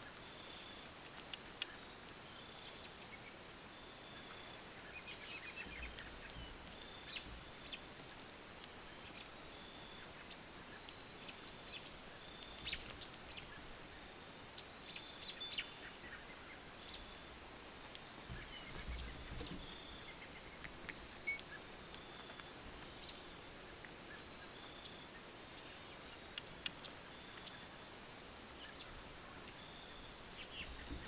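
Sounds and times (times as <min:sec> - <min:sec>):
faint hiss: 0:00.0 - 0:31.0
small birds chirping: 0:00.0 - 0:31.0.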